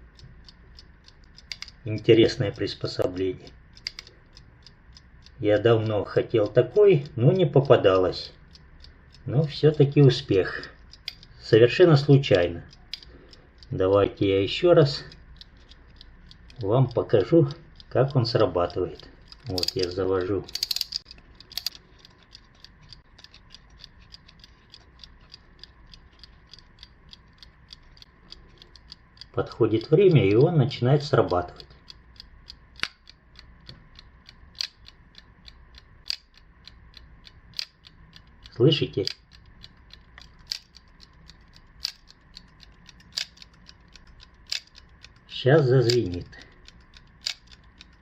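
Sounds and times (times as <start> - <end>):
alarm clock ticking: 0.0 - 48.0.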